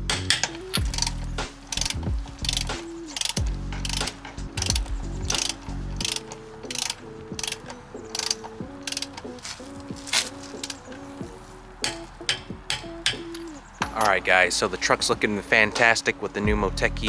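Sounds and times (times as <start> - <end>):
hand ratchet clicking: 0.0 - 16.4
background music: 0.0 - 17.0.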